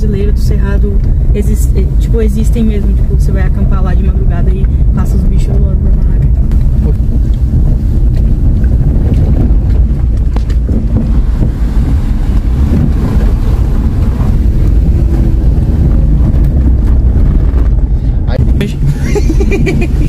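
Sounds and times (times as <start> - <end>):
moving vehicle running noise: 0.0 - 20.0
wind buffeting microphone: 0.0 - 20.0.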